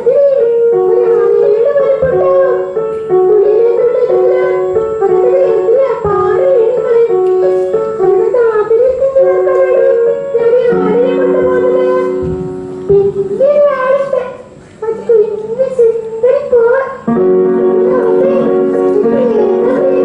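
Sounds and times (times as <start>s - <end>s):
high voice singing: 0.0s - 20.0s
held low chord: 0.6s - 13.8s, 17.1s - 20.0s
stepped instrumental notes: 0.6s - 14.6s, 17.0s - 20.0s.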